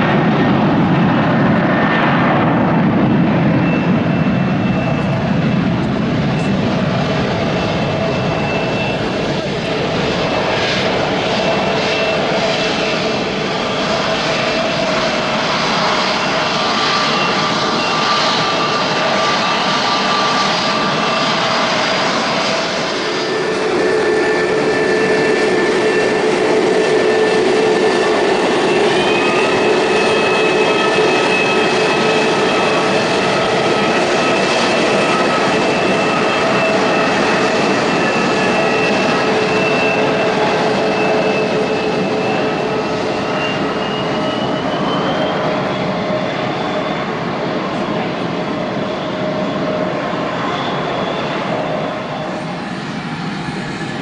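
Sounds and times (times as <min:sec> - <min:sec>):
jet airliner landing: 0:00.0 - 0:54.0
jet engines roaring and whining: 0:00.0 - 0:54.0.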